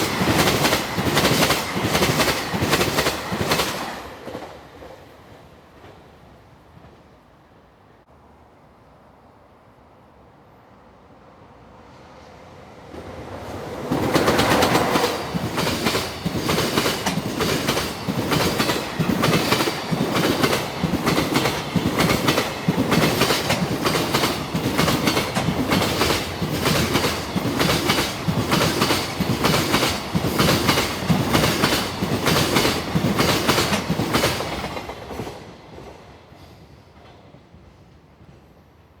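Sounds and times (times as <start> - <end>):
train wheels clickety-clack: 0.0 - 7.1, 12.9 - 38.9.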